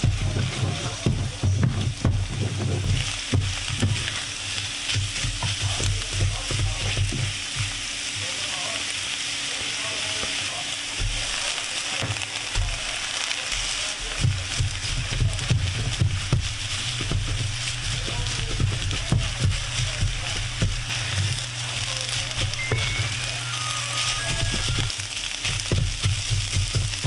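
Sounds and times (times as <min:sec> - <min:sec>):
spatulas scraping a pan: 0:00.0 - 0:08.2, 0:08.9 - 0:27.0
eggs sizzling in frying pan: 0:00.0 - 0:27.0.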